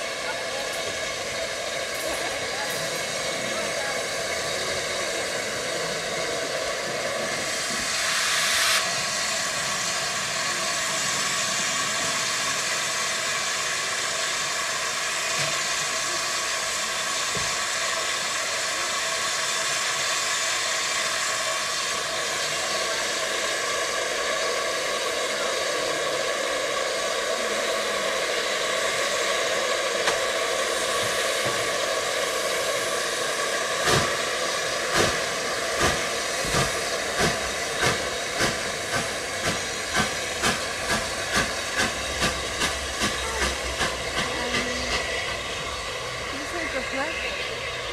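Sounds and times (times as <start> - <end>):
steam locomotive hissing steam: 0.0 - 47.9.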